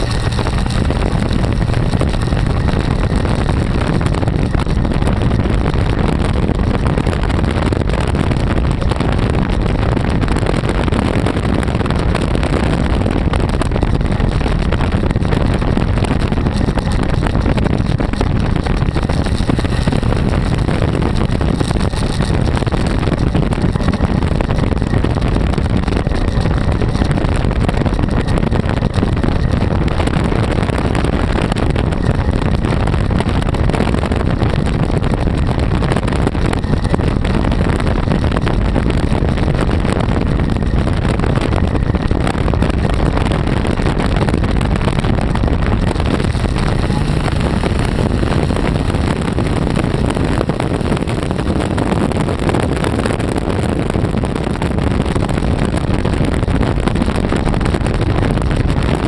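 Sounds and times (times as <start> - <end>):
engine running while cruising: 0.0 - 59.0
wind rushing over microphone: 0.0 - 59.0.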